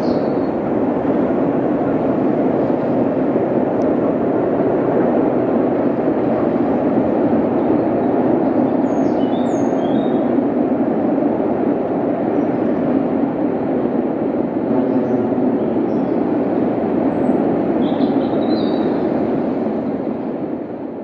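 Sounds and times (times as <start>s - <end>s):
distant steam train rumbling on bridge: 0.0s - 21.0s.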